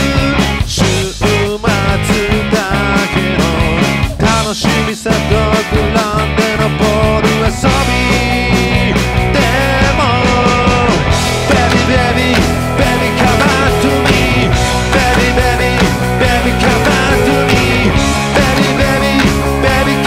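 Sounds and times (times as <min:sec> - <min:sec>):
rock song with vocals: 0:00.0 - 0:20.0.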